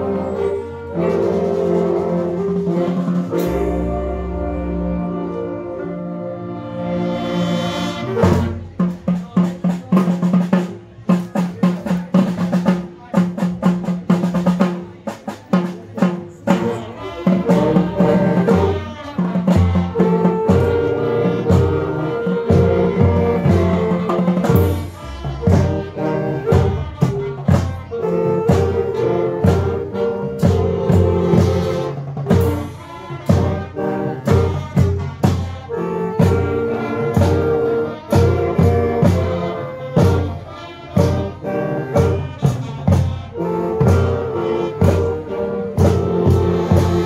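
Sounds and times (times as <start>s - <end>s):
brass and saxophone chords: 0.0s - 47.0s
snare and bass drum beat: 8.1s - 47.0s.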